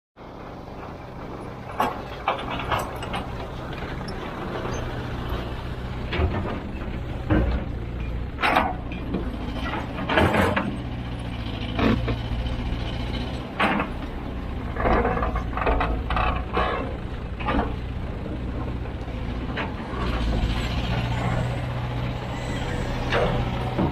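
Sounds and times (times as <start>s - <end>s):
excavator diesel engine running: 0.2s - 23.9s
metallic clanks and rattles: 0.3s - 21.8s, 22.4s - 23.9s.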